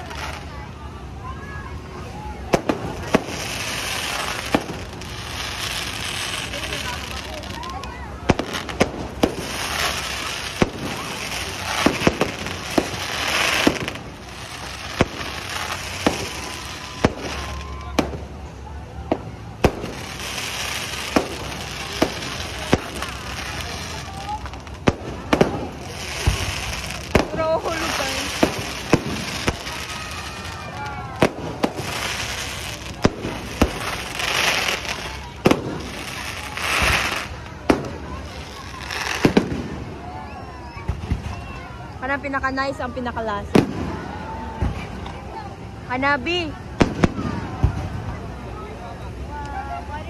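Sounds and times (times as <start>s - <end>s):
fireworks hiss: 0.0s - 40.1s
fireworks bangs: 1.6s - 48.5s.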